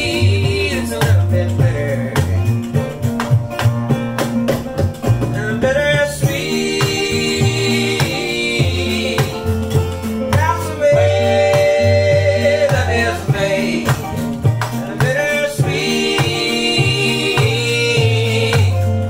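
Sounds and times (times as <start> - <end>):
people singing: 0.0 - 2.8, 5.2 - 19.0
acoustic and electric guitars: 0.0 - 19.0
upright bass: 0.0 - 19.0.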